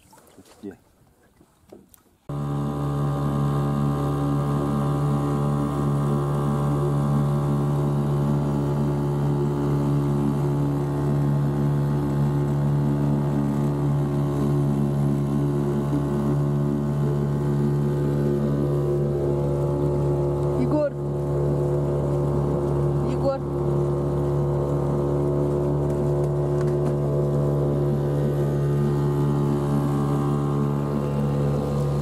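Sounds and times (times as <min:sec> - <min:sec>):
outboard motor running: 0:01.7 - 0:32.0.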